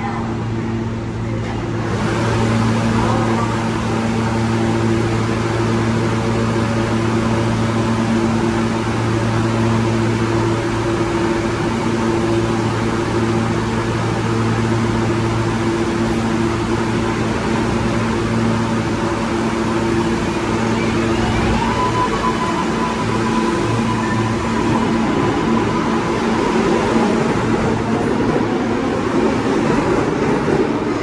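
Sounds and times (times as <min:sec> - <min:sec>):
subway train humming: 0:00.0 - 0:31.0.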